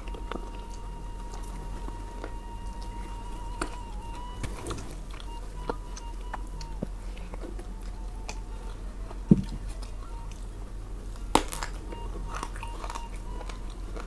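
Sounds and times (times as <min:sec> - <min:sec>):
chewing food: 0:00.0 - 0:14.0.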